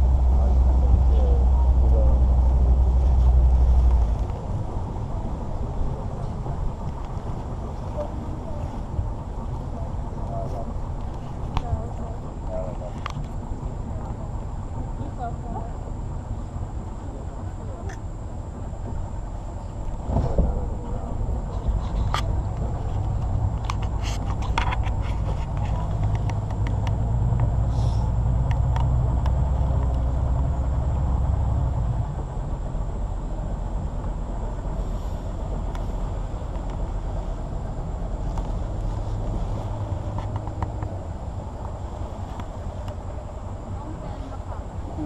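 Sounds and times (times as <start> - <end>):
boat motor rumbling hum: 0.0 - 45.0.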